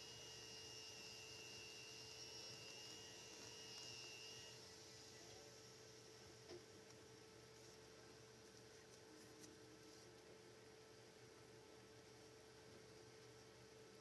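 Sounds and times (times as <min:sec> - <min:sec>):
steady low hum: 0:00.0 - 0:14.0
thin high whine: 0:00.0 - 0:14.0.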